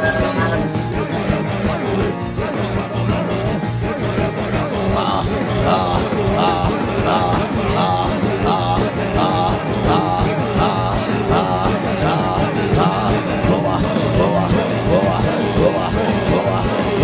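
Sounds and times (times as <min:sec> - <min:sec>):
live worship music: 0:00.0 - 0:17.0
voices singing: 0:00.0 - 0:17.0.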